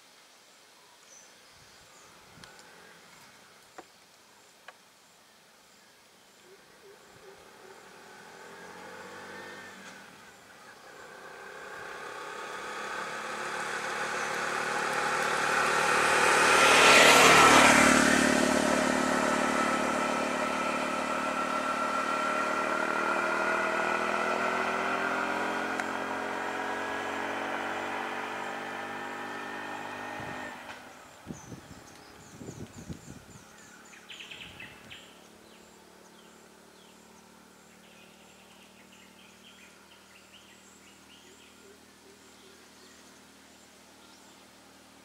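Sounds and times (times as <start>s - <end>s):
auto-rickshaw engine passing: 7.2s - 45.0s.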